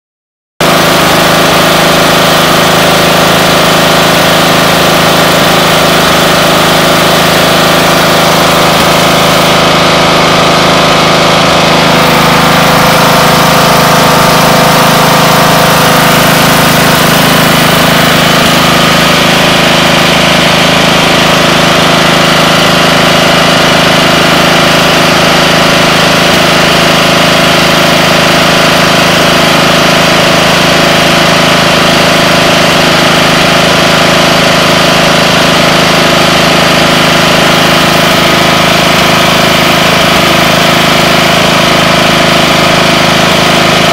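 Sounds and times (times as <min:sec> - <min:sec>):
riding mower engine running: 0:00.6 - 0:43.9.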